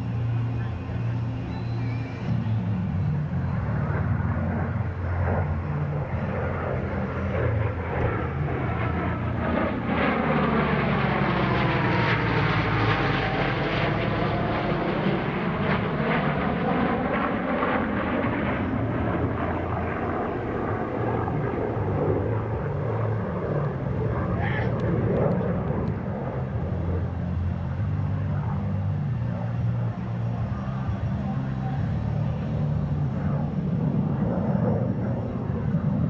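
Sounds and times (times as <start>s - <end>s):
aircraft flying past: 0.0s - 36.0s.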